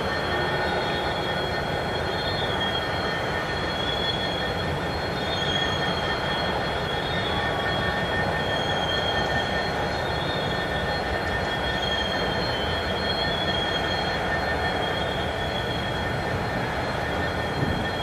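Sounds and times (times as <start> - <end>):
railroad turntable squealing: 0.0 - 18.0.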